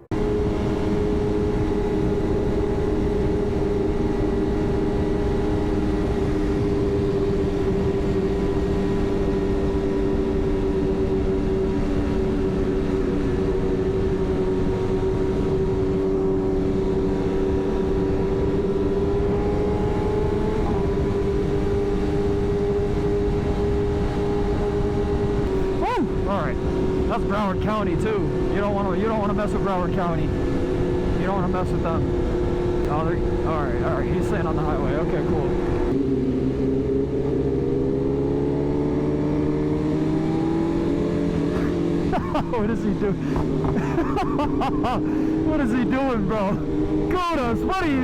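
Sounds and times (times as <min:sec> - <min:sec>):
motorcycle engine cruising: 0:00.0 - 0:48.0.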